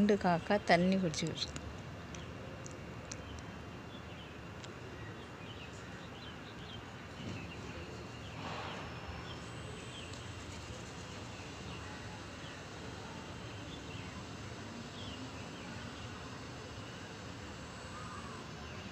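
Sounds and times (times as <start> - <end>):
outdoor background hum: 0.0 - 18.9.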